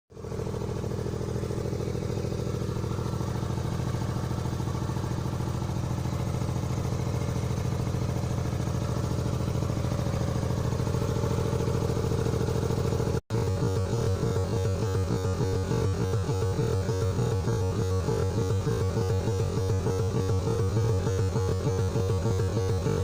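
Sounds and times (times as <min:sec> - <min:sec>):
car engine pulsing hum: 0:00.2 - 0:23.0.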